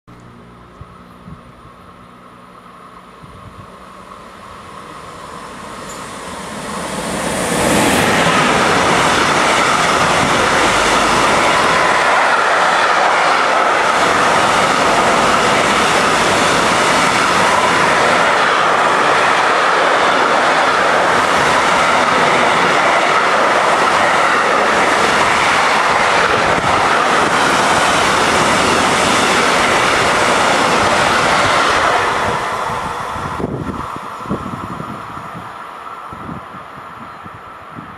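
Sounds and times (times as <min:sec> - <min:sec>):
freight train passing at speed: 0:00.2 - 0:37.9
train wheels rushing on rails: 0:02.6 - 0:37.9.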